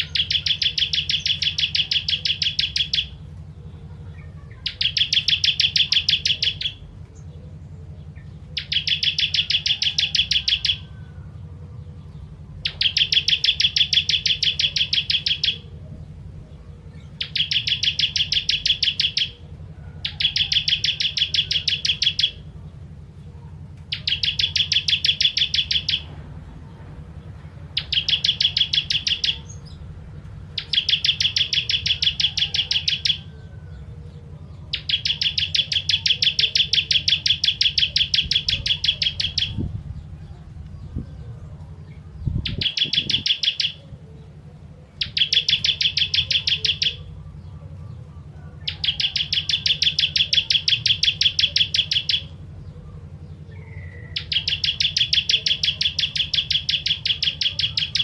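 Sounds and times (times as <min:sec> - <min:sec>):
bird singing rattling trills: 0:00.0 - 0:58.0
low steady hum: 0:00.0 - 0:58.0.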